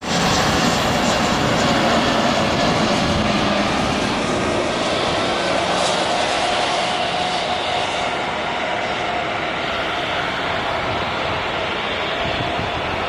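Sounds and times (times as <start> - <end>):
jet engine roar with whine: 0.0 - 13.0.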